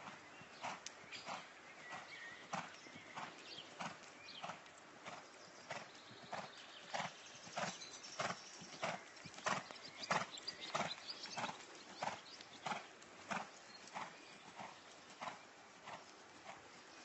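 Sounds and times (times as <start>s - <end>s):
horse cantering on soft ground: 0.0s - 17.0s.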